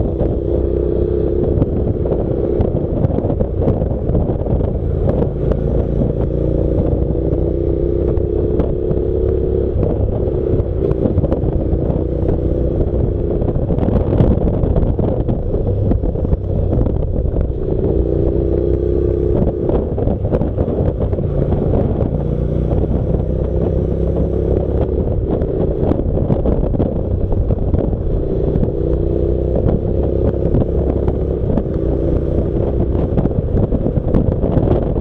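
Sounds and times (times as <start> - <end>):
motorcycle engine cruising: 0.0 - 35.0
wind rushing over microphone: 0.0 - 35.0.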